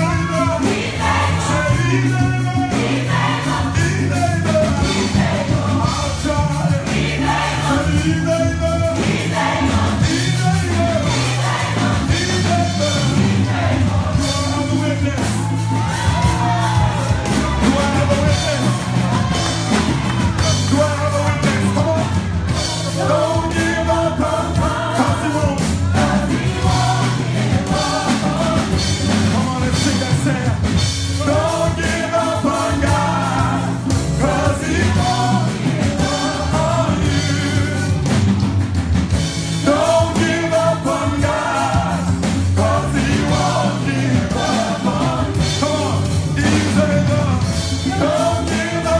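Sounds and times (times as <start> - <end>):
drums keeping a beat: 0.0 - 48.9
group singing gospel: 0.0 - 48.9.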